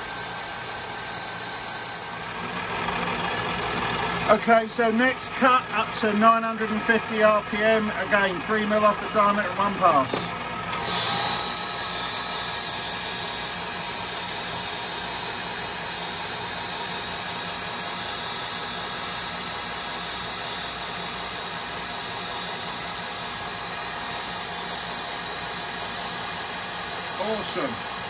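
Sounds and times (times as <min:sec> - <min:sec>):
lathe cutting steel: 0:00.0 - 0:28.0.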